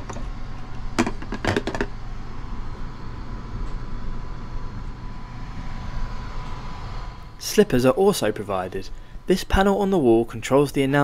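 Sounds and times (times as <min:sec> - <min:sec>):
faint steady whine: 0:00.0 - 0:11.0
train hum and rumble: 0:00.0 - 0:11.0.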